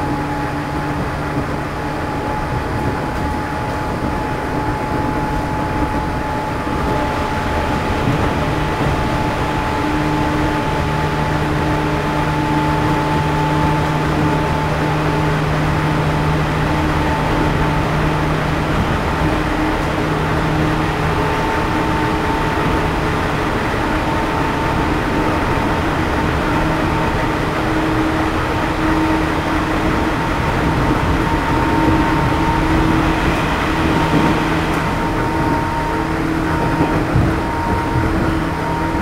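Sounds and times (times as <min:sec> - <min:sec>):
rail and wheel noise: 0:00.0 - 0:39.0
train motor and gear whine: 0:00.0 - 0:39.0.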